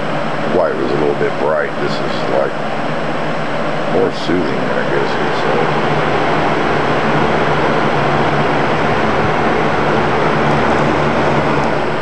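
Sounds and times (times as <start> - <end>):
fan blades rushing air: 0.0 - 12.0
low motor hum: 0.0 - 12.0.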